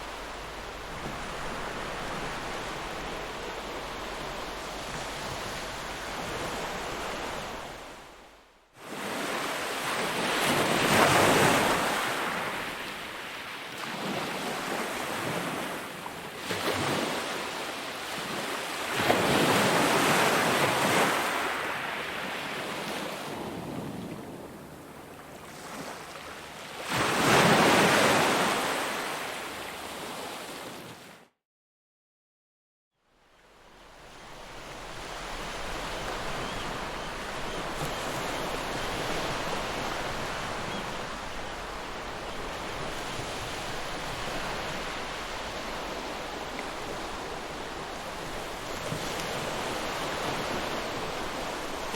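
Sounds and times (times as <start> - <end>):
ocean waves breaking: 0.0 - 24.1, 33.6 - 51.9.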